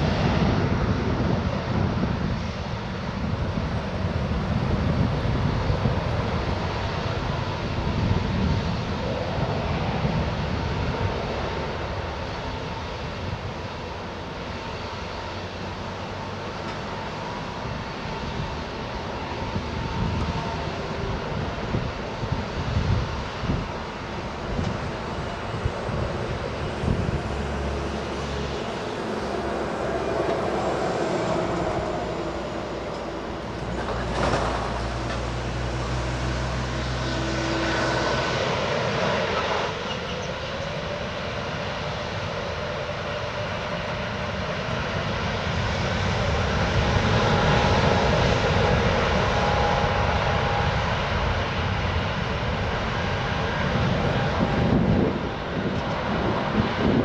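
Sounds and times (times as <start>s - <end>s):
airliner engine rushing: 0.0s - 57.0s.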